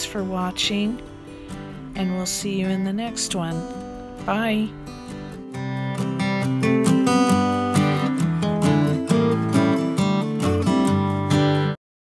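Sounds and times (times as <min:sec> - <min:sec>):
strummed acoustic guitar music: 0:00.0 - 0:11.8.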